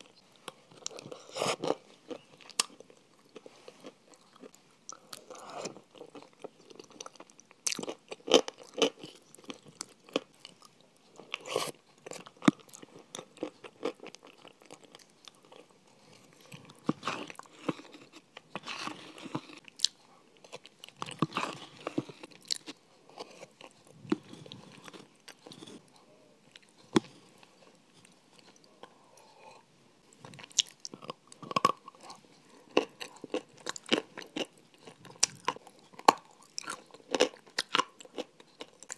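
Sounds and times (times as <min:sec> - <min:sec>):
biting and chewing crunchy food: 0:00.0 - 0:38.9.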